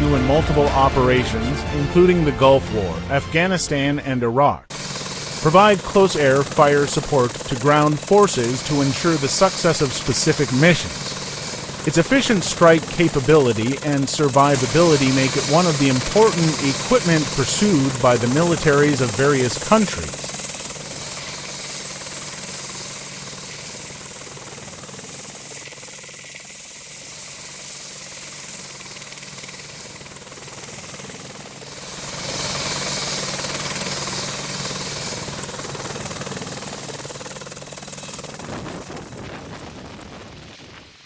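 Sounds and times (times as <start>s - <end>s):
helicopter rotor and turbine: 0.0s - 4.0s, 4.7s - 41.0s.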